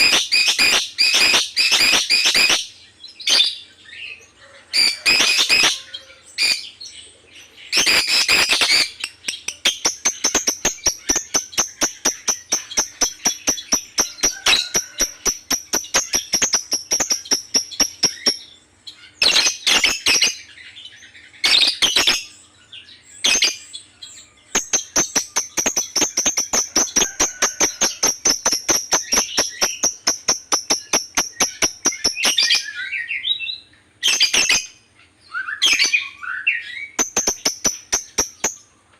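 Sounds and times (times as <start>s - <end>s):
bird chirps: 0.0s - 38.9s
bird singing rattling trills: 0.0s - 38.9s.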